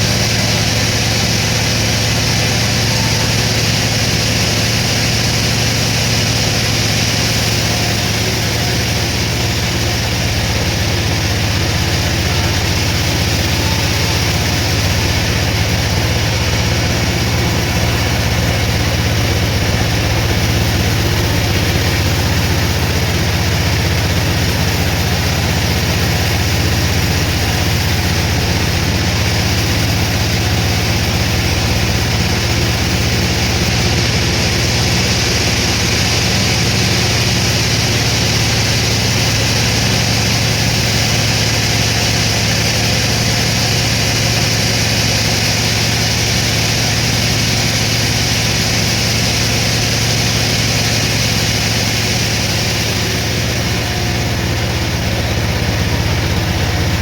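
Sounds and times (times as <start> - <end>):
sawmill machinery hum: 0.0 - 57.0.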